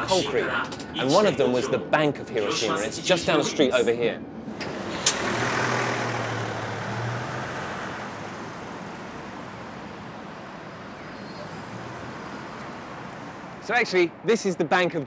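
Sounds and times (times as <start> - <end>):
vehicle engine drone: 0.0 - 13.6
background traffic: 0.0 - 15.0.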